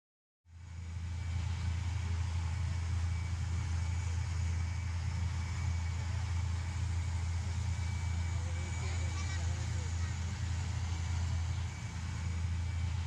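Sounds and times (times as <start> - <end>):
low rumble of city noise: 0.5 - 13.0.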